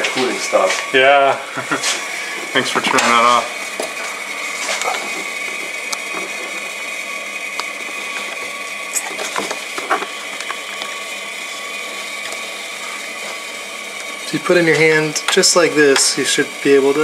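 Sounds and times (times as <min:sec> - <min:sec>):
motor-like whine: 0:00.0 - 0:17.0.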